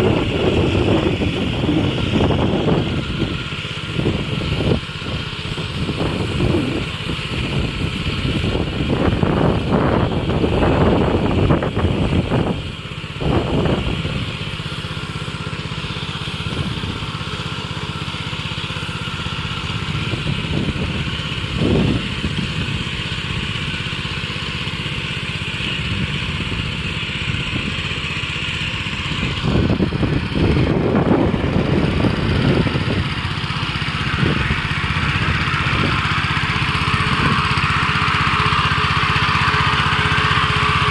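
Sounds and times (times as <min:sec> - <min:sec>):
wind buffeting microphone: 0:00.0 - 0:17.3, 0:19.0 - 0:24.0, 0:25.4 - 0:28.0, 0:28.7 - 0:40.9
small sprayer engine running: 0:00.0 - 0:40.9.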